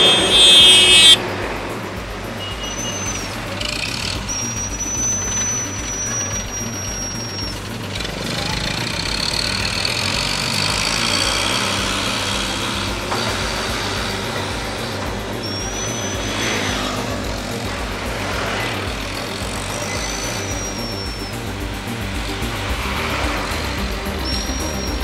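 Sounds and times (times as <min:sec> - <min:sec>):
heavy truck engine rumbling: 0:00.0 - 0:25.0
thin high whistling tones: 0:00.0 - 0:25.0.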